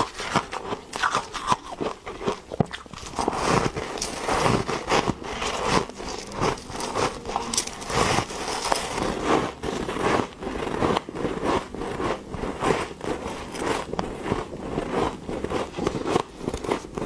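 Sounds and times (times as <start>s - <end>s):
crunchy chewing of frost: 0.0s - 17.0s.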